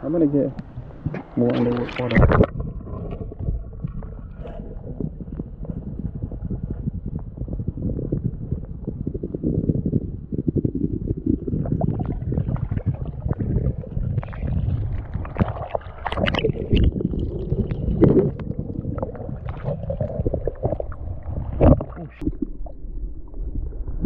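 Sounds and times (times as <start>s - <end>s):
muffled underwater sloshing: 0.0s - 24.0s.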